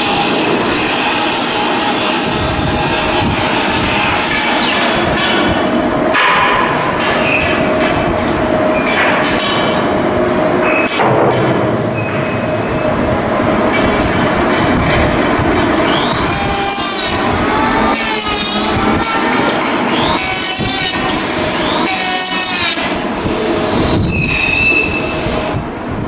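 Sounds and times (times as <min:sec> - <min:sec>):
steel-working noise: 0:00.0 - 0:25.6.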